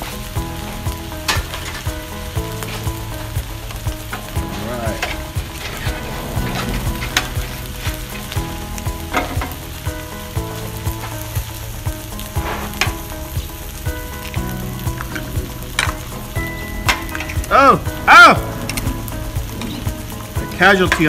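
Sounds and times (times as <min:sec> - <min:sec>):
food sizzling on griddle: 0:00.0 - 0:21.0.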